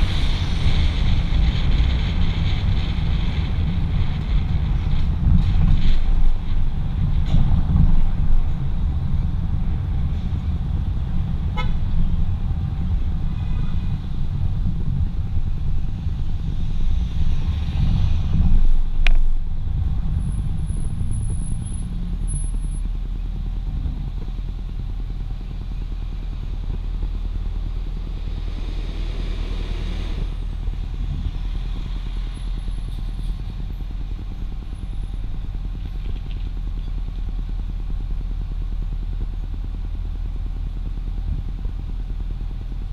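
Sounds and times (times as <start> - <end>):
wind and road noise rumble: 0.0 - 42.9.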